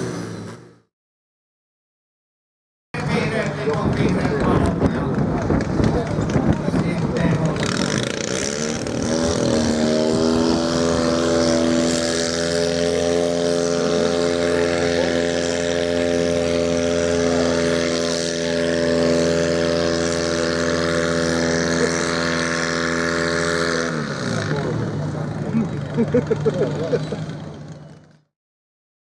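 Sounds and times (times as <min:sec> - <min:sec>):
tractor engine at full throttle: 0:00.0 - 0:00.8, 0:03.0 - 0:28.3.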